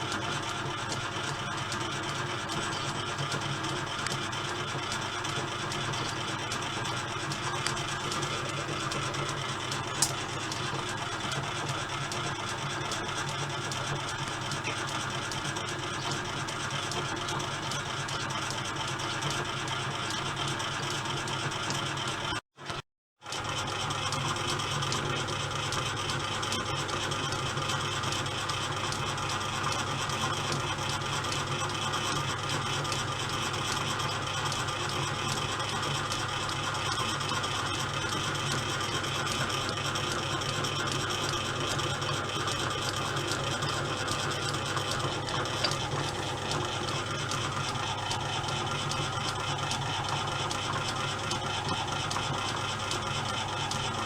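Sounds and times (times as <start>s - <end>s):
lathe gear train whirring: 0.0s - 18.4s, 26.5s - 54.0s.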